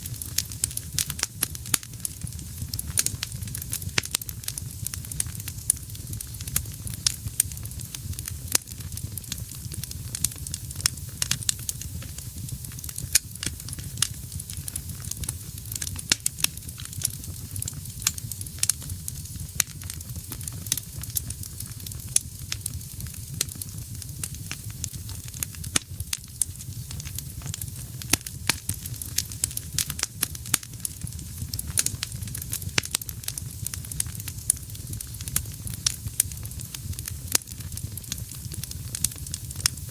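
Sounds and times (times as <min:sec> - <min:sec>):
fire rumbling and hissing: 0:00.0 - 0:39.9
logs crackling and popping: 0:00.0 - 0:39.9.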